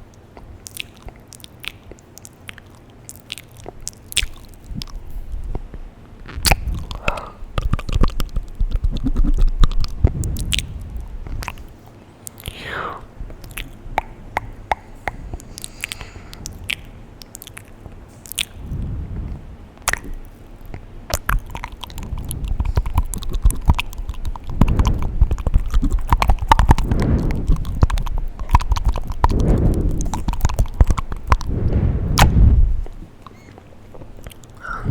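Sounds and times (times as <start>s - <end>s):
wet mouth clicks and smacks: 0.0s - 34.9s.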